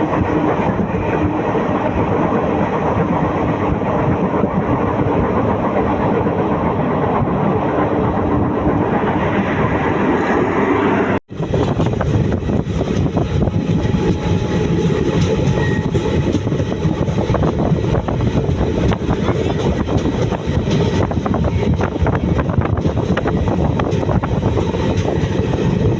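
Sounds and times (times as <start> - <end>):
train wheels rattling on track: 0.0 - 25.9.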